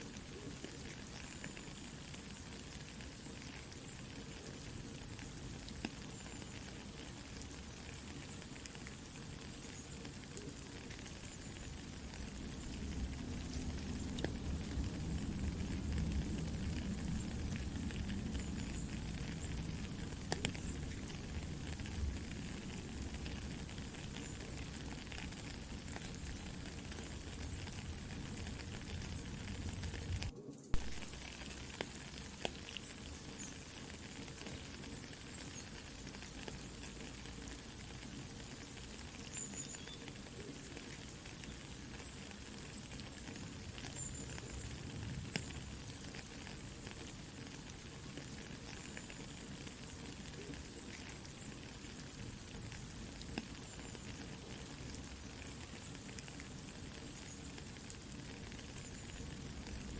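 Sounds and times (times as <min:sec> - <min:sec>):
campfire crackling and popping: 0:00.0 - 0:59.9
soft steady rain: 0:00.0 - 0:59.9.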